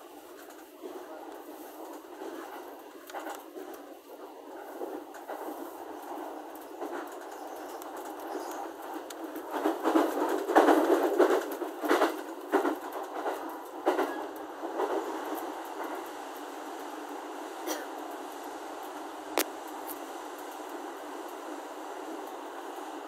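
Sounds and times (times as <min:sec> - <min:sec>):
passing train clicks and knocks: 0:00.0 - 0:23.0
train rumbling inside carriage: 0:00.0 - 0:23.0.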